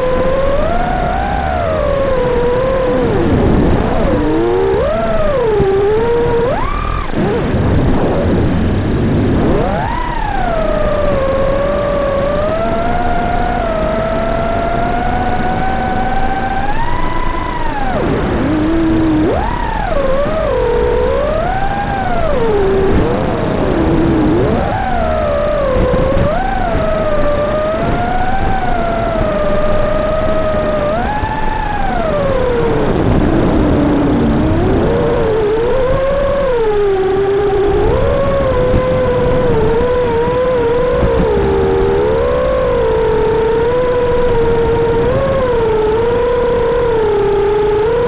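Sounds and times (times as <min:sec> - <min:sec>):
quadcopter motors whining: 0:00.0 - 0:48.0.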